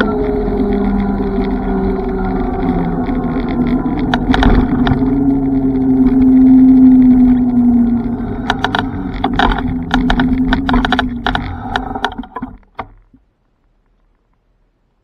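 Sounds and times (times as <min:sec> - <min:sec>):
ride-on vehicle drive humming: 0:00.0 - 0:13.2
vehicle rattling and clicking: 0:00.0 - 0:13.2.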